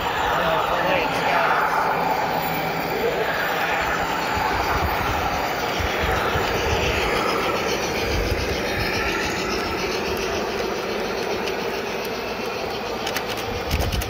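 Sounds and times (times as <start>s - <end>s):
model train wheels on track: 0.0s - 14.0s.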